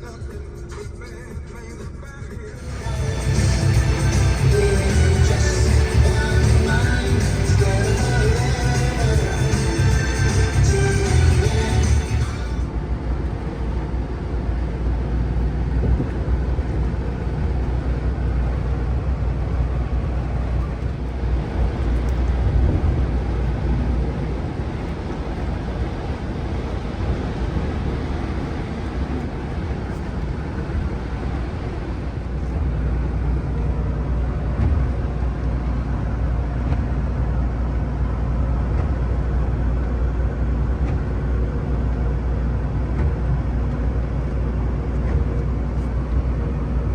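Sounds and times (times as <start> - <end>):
road noise: 0.0 - 46.9
truck engine drone: 0.0 - 46.9.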